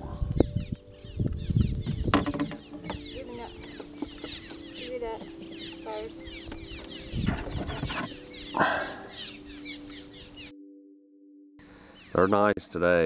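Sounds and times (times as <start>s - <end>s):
birds chirping: 0.0s - 10.8s, 11.6s - 13.0s.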